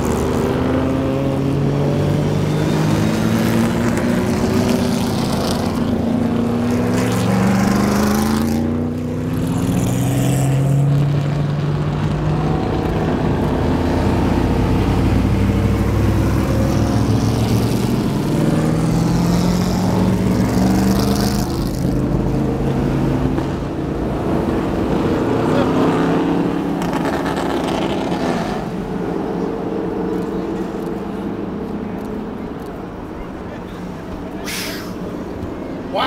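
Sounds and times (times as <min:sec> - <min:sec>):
car engines revving past: 0:00.0 - 0:36.0.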